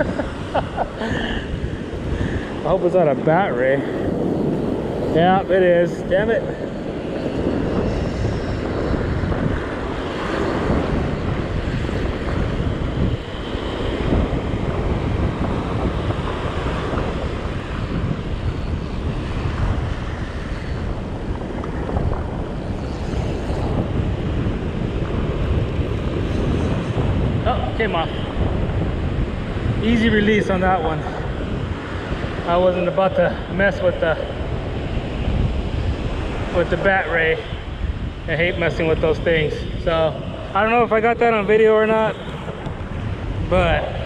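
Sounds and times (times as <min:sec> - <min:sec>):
breaking surf: 0:00.0 - 0:44.0
wind buffeting microphone: 0:00.0 - 0:44.0.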